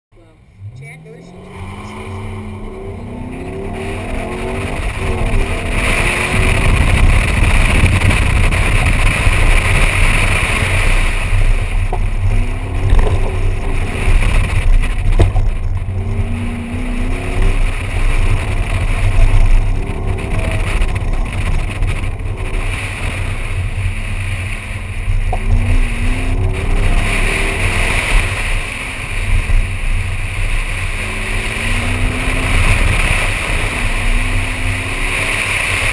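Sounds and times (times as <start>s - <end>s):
car engine revving: 0.1s - 35.9s
steady rushing noise: 0.2s - 35.9s.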